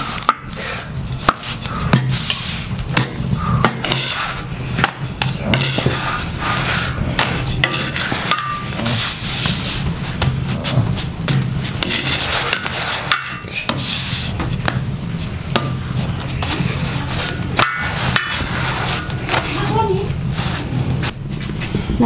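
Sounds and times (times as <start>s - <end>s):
wooden spatula scraping flatbread: 0.1s - 21.2s.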